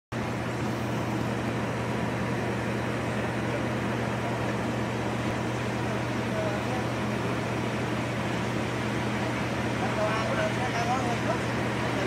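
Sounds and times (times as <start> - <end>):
diesel locomotive engine drone: 0.1 - 12.0.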